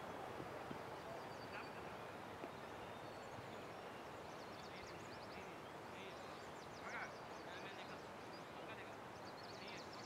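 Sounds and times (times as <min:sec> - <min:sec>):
faint outdoor background noise: 0:00.0 - 0:10.0.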